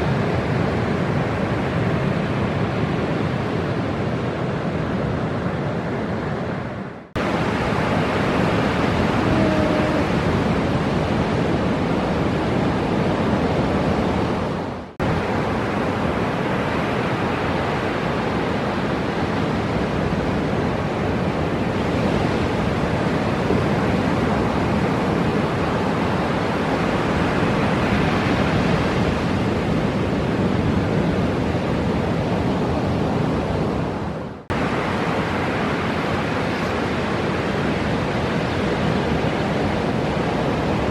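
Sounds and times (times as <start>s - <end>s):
ocean surf roaring: 0.0s - 40.9s.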